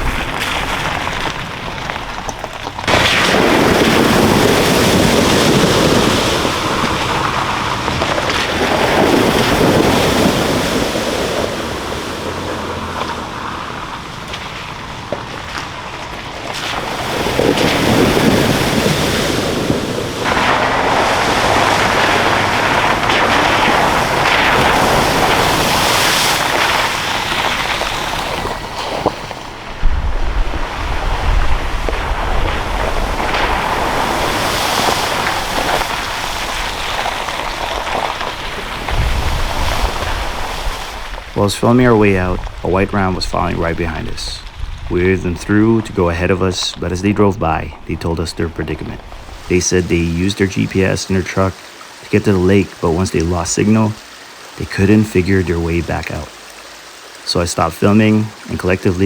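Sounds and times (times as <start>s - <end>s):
wind buffeting microphone: 0.0s - 51.5s.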